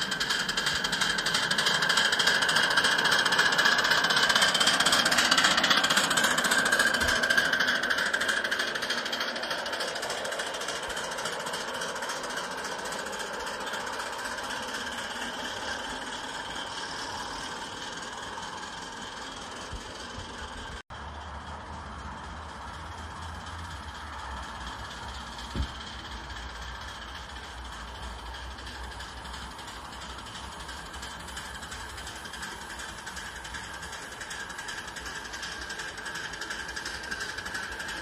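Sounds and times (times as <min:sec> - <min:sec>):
miniature train rattling past: 0:00.0 - 0:38.0.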